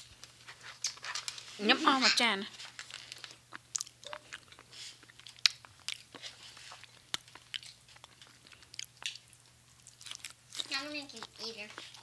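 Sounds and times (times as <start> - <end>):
people biting and chewing: 0.4 - 1.4, 2.7 - 12.0.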